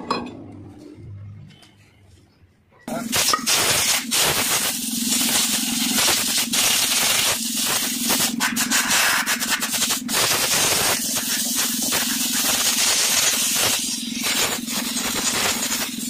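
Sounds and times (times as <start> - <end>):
compressed air blow gun hissing: 3.0 - 16.0.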